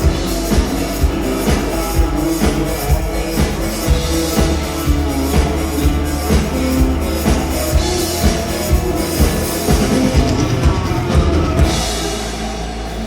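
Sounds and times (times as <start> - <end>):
drum kit beat: 0.0 - 13.0
live rock band playing: 0.0 - 13.0.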